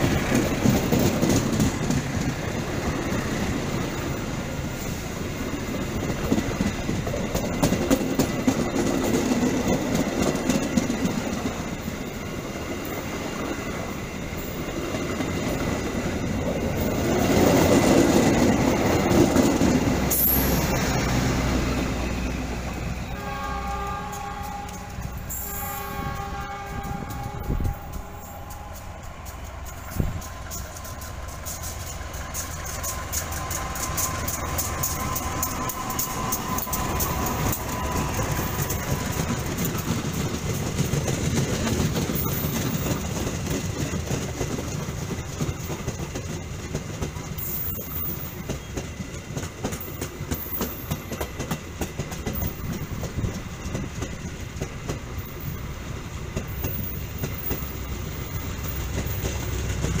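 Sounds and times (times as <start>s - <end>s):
train rumble: 0.0s - 60.0s
train wheels clickety-clack: 0.0s - 60.0s.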